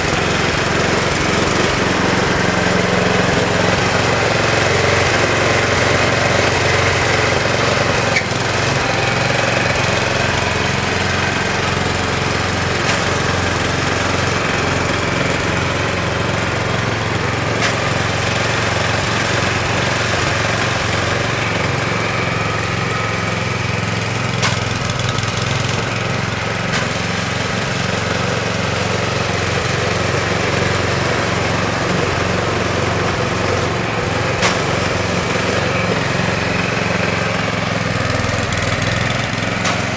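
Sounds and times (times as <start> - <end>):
snow blower engine running: 0.0 - 39.9.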